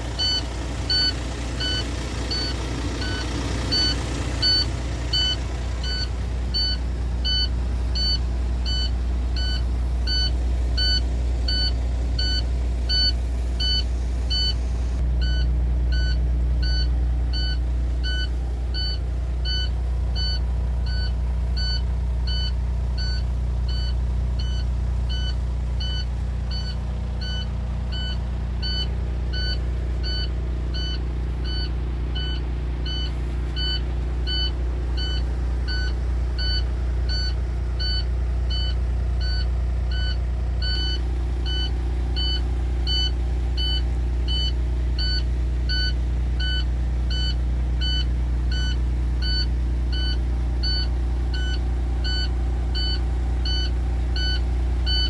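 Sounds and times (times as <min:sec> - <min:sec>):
diesel truck engine idling: 0:00.0 - 0:55.0
dash warning chime beeping: 0:00.2 - 0:14.6, 0:15.2 - 0:55.0.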